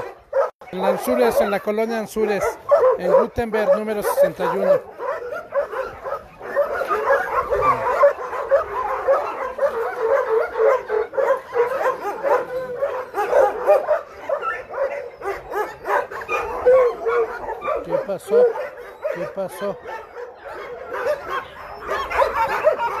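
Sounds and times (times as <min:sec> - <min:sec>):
many dogs barking: 0:00.0 - 0:23.0.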